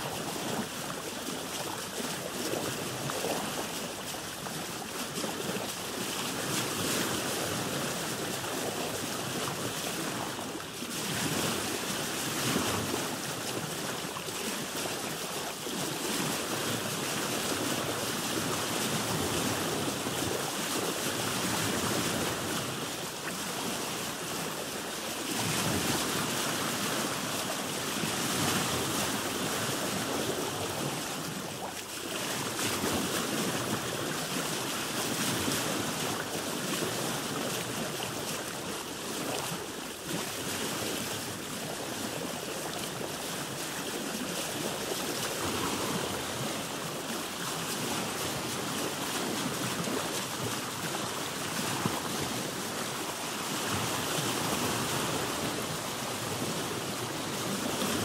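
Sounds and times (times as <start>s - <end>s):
waves washing around a boat: 0.0s - 58.0s.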